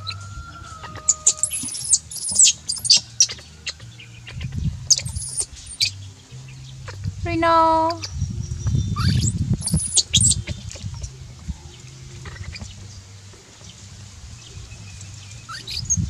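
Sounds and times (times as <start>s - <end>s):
baby monkey squeaking: 0.0s - 13.0s, 15.5s - 16.0s.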